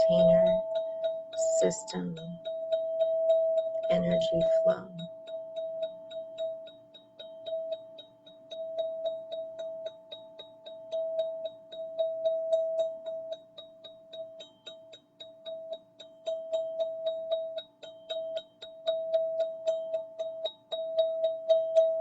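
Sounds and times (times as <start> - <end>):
steady ringing tone: 0.0 - 22.0.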